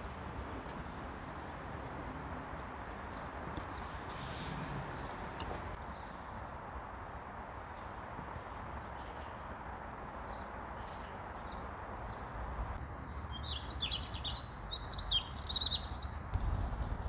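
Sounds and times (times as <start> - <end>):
songbirds chirping: 0.7 - 6.8, 7.7 - 17.0.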